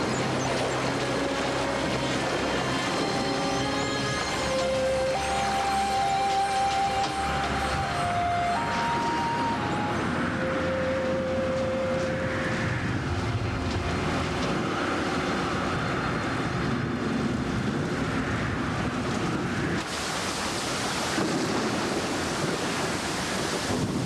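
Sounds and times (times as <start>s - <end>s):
rain: 0.0s - 24.0s
wind: 0.0s - 24.0s.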